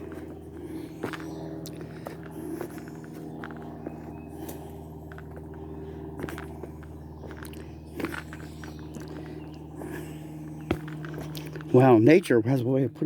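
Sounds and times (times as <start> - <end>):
footsteps crunching on dirt: 0.0 - 12.3
steady low hum: 0.0 - 13.0.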